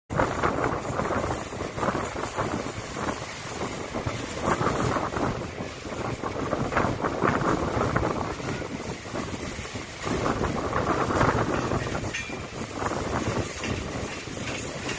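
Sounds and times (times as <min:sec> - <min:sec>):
trains rumbling clatter: 0:00.1 - 0:14.9
wind buffeting microphone: 0:00.1 - 0:14.9.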